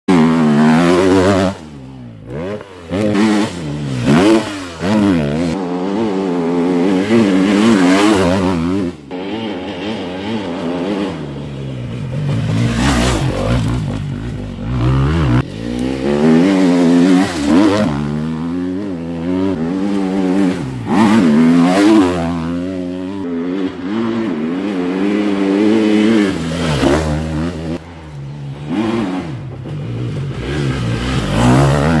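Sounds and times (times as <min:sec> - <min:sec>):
dirt bike engine revving: 0:00.1 - 0:32.0.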